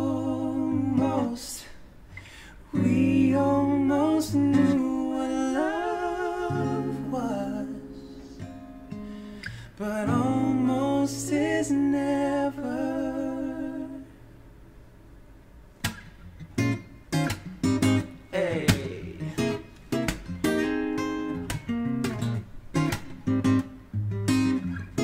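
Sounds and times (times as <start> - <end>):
acoustic guitar plucking: 0.0 - 14.8, 15.8 - 25.0.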